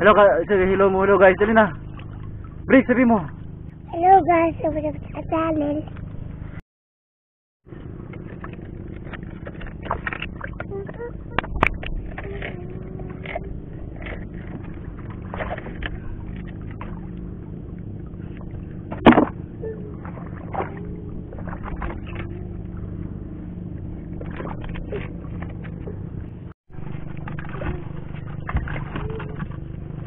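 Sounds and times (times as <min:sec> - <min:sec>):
low background rumble: 0:00.0 - 0:06.6, 0:07.7 - 0:30.0.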